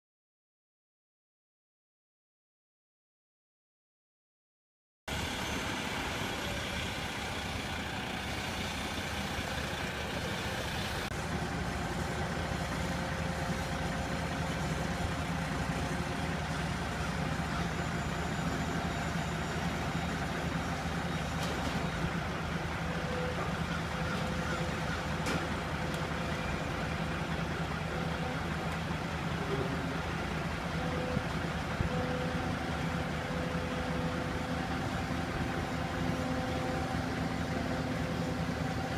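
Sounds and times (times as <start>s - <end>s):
loader diesel engine running: 5.1s - 38.9s
truck diesel engine running: 5.1s - 38.9s.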